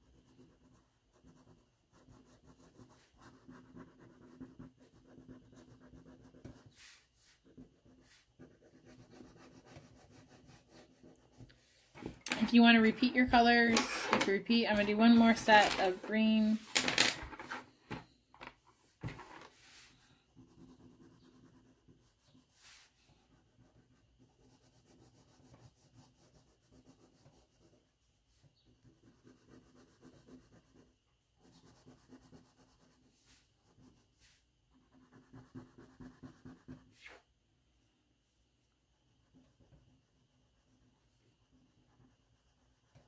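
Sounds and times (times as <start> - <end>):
crayon scratching on paper: 0.0 - 16.8, 19.1 - 37.2, 39.1 - 43.0.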